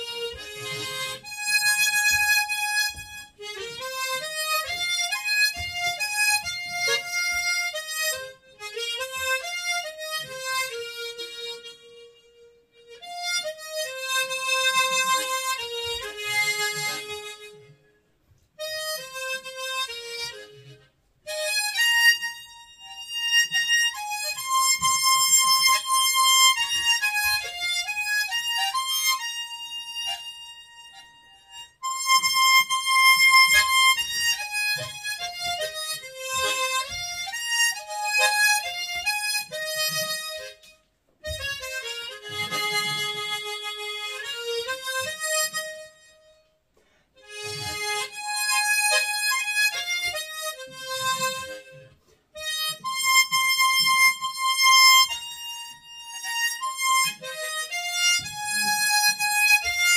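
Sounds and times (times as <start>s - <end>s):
harmonica melody: 0.0s - 59.9s.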